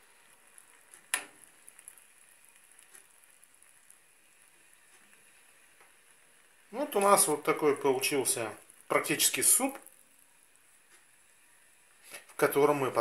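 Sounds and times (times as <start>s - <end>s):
broth simmering: 0.0s - 13.0s.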